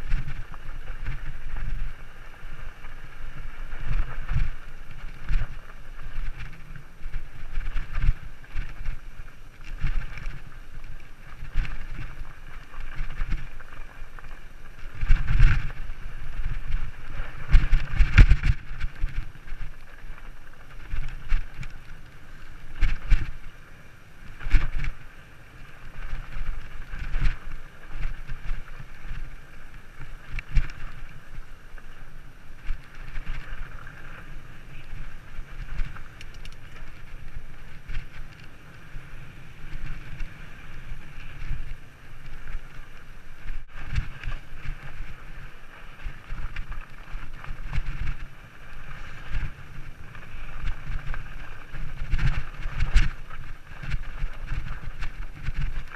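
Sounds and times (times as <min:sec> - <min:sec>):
bike tyre rumble on gravel: 0:00.0 - 0:55.9
wind buffeting microphone: 0:00.0 - 0:55.9.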